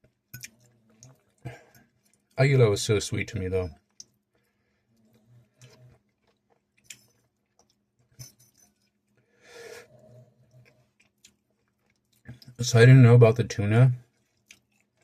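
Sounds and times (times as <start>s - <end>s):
person chewing noodles: 0.1s - 2.4s, 3.7s - 12.6s, 14.0s - 15.0s.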